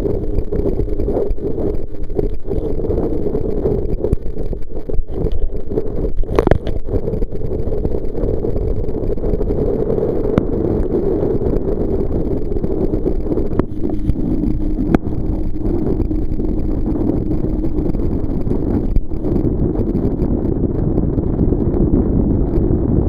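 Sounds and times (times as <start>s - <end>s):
water rushing: 0.0s - 20.5s
steady low hum: 0.0s - 23.0s
wind buffeting microphone: 0.0s - 23.0s.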